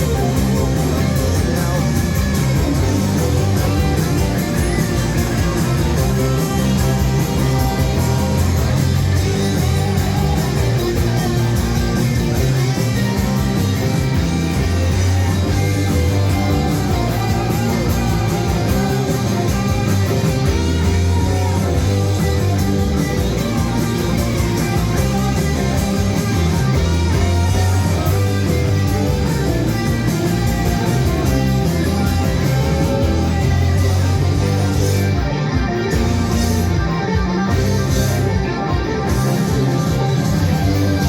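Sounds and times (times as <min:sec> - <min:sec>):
guitar playing: 0:00.0 - 0:41.0
heavy bass line: 0:00.0 - 0:41.0
loud rock music: 0:00.0 - 0:41.0.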